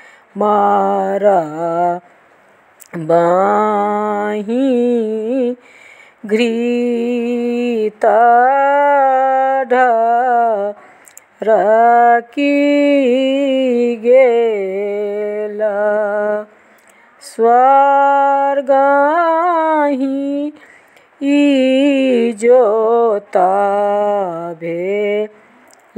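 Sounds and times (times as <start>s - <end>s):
woman singing unaccompanied: 0.0s - 2.1s, 2.8s - 25.9s.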